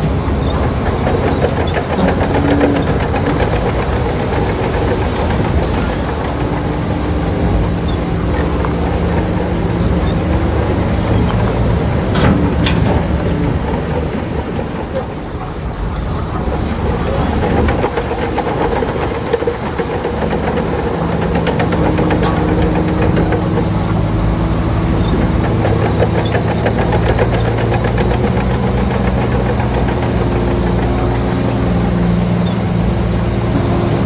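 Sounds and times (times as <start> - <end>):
diesel machinery running: 0.0 - 34.0.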